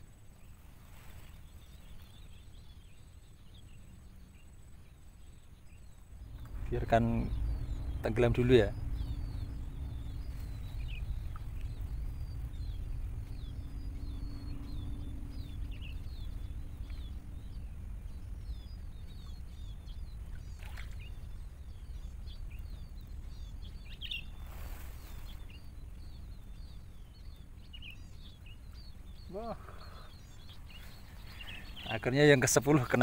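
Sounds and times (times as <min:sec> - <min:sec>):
rustle: 0:00.0 - 0:08.0, 0:08.6 - 0:33.0
low outdoor rumble: 0:00.0 - 0:33.0
small birds chirping: 0:00.0 - 0:33.0.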